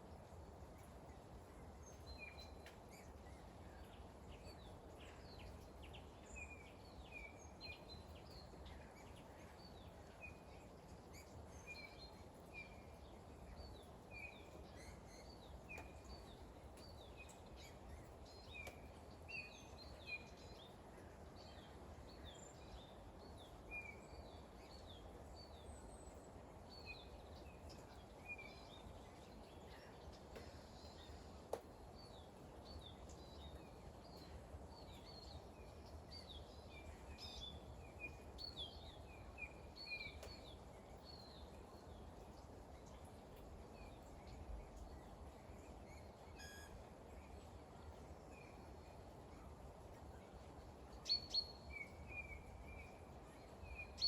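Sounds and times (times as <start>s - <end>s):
soft low background noise: 0.0s - 54.0s.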